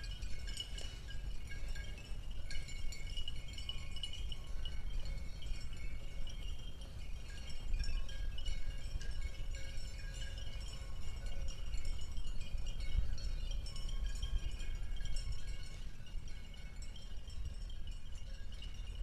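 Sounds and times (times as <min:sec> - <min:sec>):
tinkling chime-like tones: 0:00.0 - 0:19.0.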